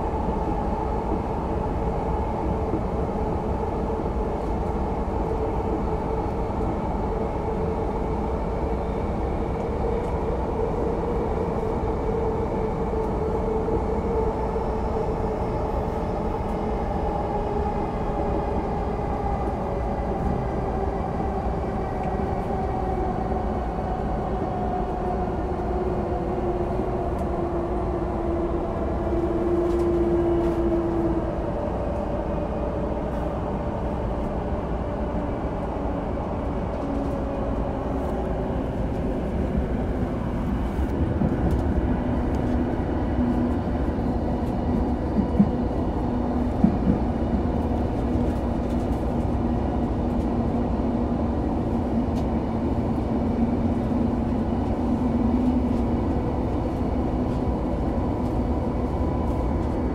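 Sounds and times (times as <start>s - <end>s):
train wheel rumble: 0.0s - 59.9s.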